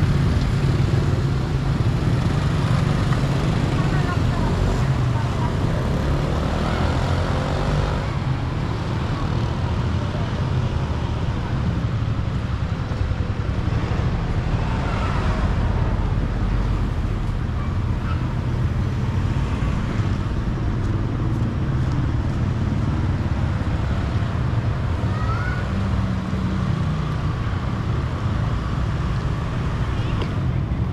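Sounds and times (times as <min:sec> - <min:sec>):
cars passing: 0:00.0 - 0:30.9
motorbikes passing: 0:00.0 - 0:30.9.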